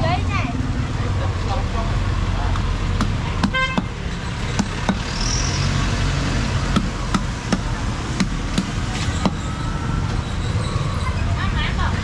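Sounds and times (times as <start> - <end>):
motor traffic: 0.0 - 12.0.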